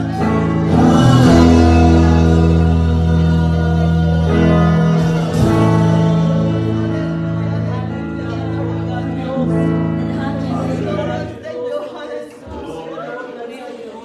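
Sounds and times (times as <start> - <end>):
amplified instrumental accompaniment: 0.0 - 11.4
man singing: 0.0 - 11.8.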